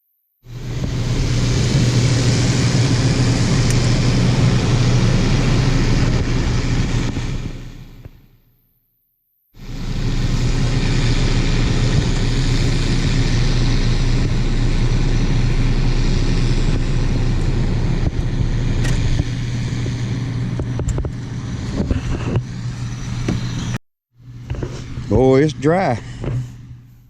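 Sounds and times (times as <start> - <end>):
dense rushing noise: 0.4 - 8.3, 9.6 - 26.9
engine running with low hum: 0.4 - 8.5, 9.6 - 27.0.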